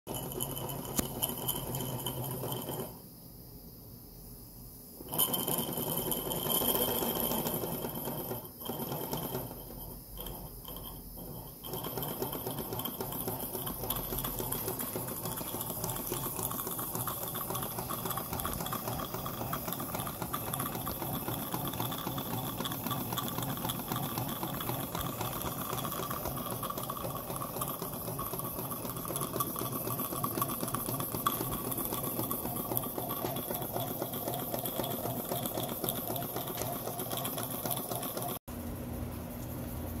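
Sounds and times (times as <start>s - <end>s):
toy steam engine chattering: 5.1s - 38.4s.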